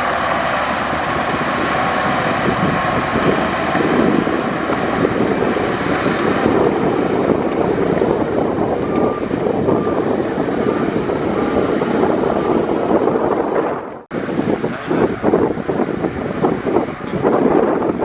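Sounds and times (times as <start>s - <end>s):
heavy diesel machinery running: 0.0s - 18.0s.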